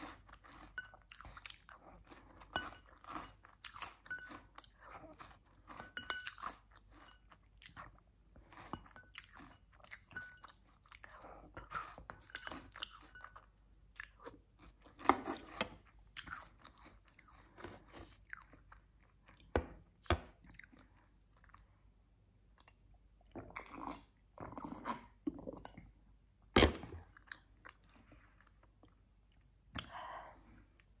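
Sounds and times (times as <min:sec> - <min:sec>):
chewing and crunching cereal: 0:00.0 - 0:22.0, 0:26.9 - 0:31.0.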